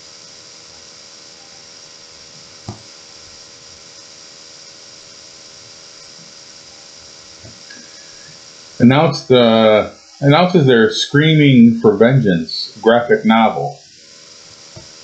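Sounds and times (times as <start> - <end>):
microphone hiss with hum: 0.0 - 15.0.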